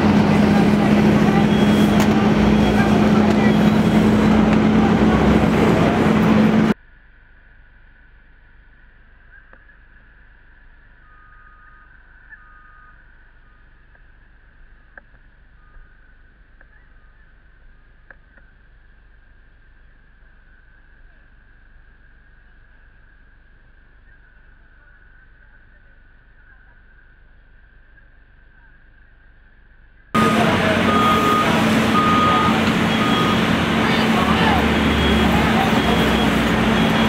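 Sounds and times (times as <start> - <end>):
engine running with low hum: 0.0 - 37.0.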